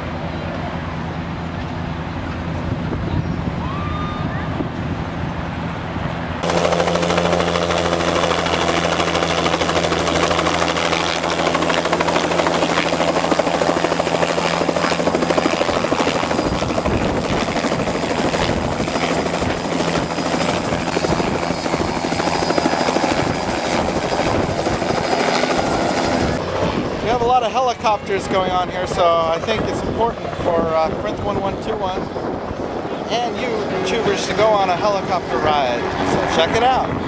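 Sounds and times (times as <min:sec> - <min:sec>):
helicopter rotor and engine: 0:00.0 - 0:03.5, 0:04.6 - 0:37.0.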